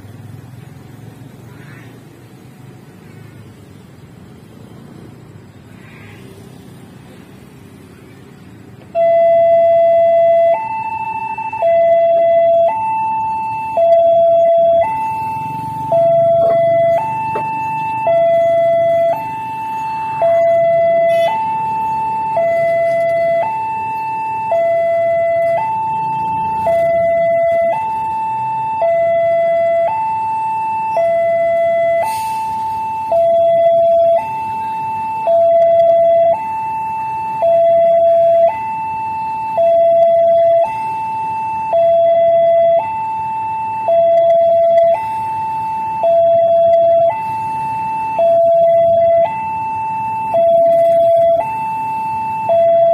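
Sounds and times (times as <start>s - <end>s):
two-tone level crossing alarm: 8.9s - 52.9s.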